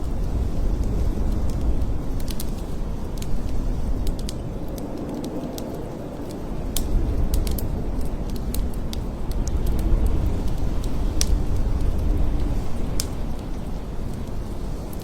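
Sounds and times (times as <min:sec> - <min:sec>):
blizzard wind blowing hard: 0:00.0 - 0:15.0
sharp clicks and crackles: 0:00.8 - 0:15.0.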